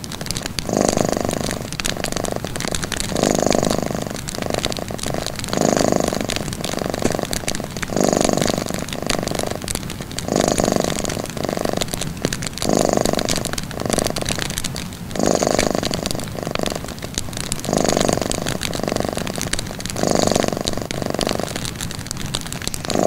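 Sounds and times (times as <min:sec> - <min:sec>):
cat purring: 0:00.0 - 0:23.0
wood fire crackling: 0:00.0 - 0:23.0.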